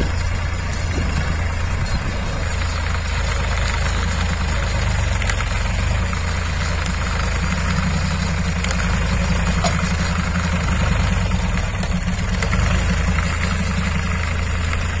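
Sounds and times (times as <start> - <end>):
straw baler working: 0.0 - 15.0
tractor diesel engine running: 0.0 - 15.0.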